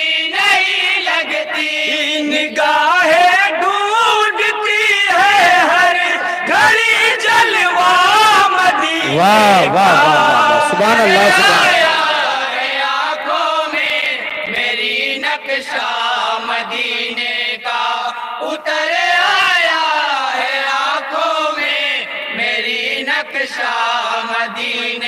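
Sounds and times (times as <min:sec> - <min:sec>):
men chanting in chorus: 0:00.0 - 0:25.0.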